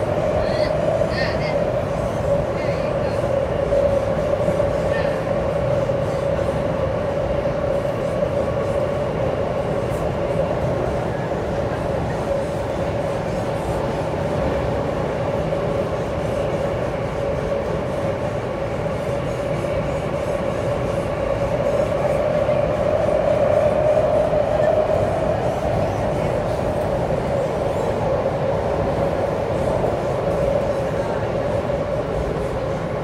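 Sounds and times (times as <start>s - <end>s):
metro train rumbling in tunnel: 0.0s - 33.0s.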